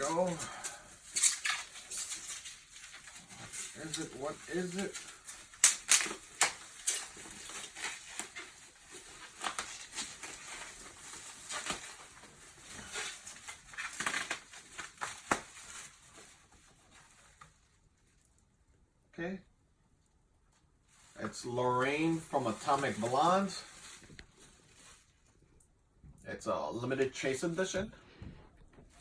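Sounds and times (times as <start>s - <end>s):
bubble wrap crackling: 0.0s - 18.7s, 20.5s - 25.7s.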